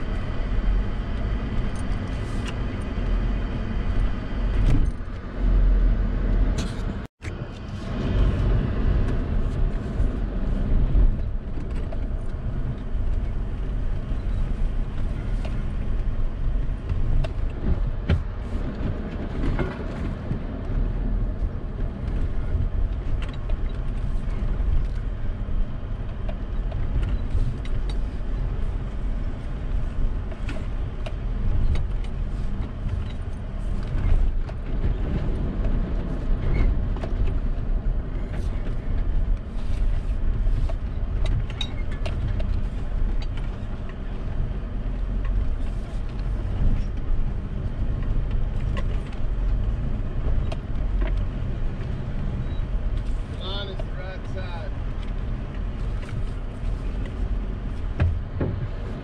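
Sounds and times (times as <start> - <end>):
truck engine running at low revs: 0.0 - 59.0.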